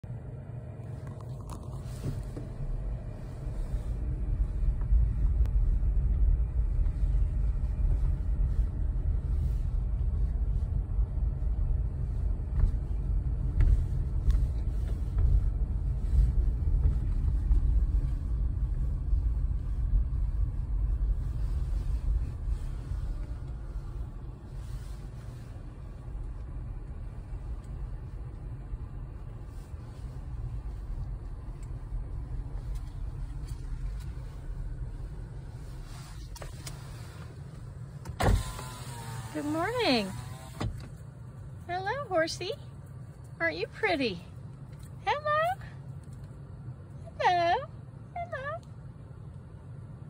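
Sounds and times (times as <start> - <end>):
car rumble inside cabin: 0.0 - 50.0.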